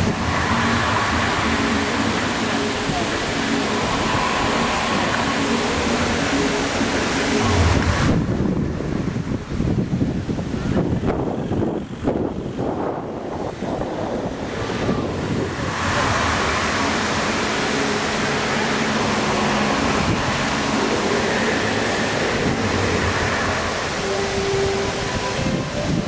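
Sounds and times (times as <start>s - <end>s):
fountain water splashing: 0.0s - 26.0s.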